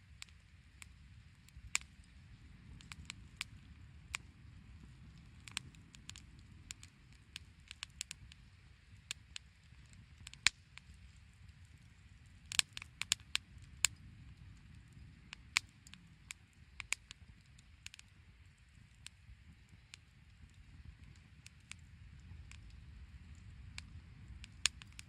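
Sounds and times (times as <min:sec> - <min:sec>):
firewood burning and crackling: 0:00.0 - 0:25.0.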